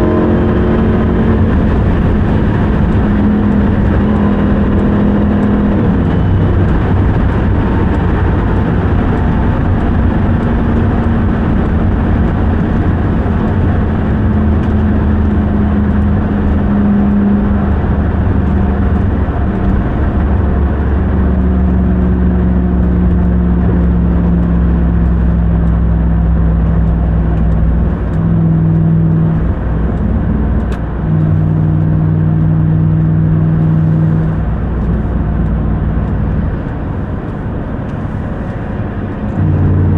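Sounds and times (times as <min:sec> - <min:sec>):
pickup truck engine running: 0:00.0 - 0:39.9
road noise: 0:00.0 - 0:39.9.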